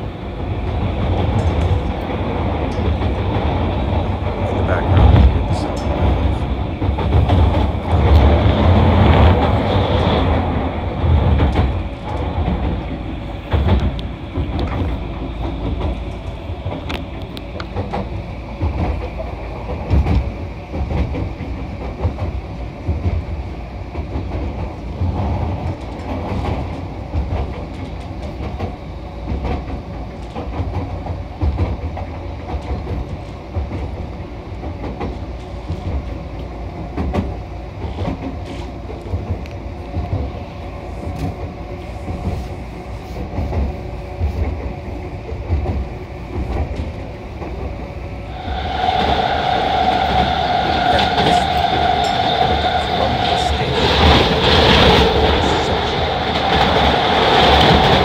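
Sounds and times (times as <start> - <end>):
train car rumble: 0.0 - 58.0.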